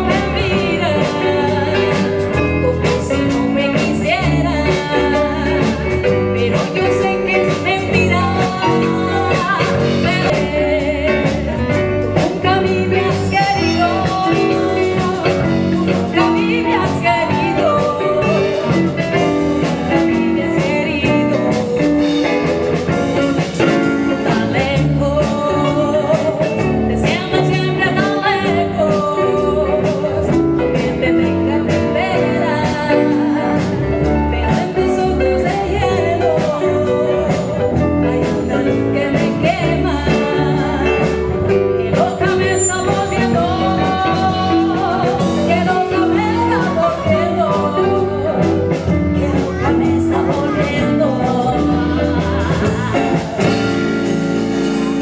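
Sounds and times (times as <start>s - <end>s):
drums: 0.0s - 55.0s
live band playing: 0.0s - 55.0s
woman singing into microphone: 0.0s - 55.0s.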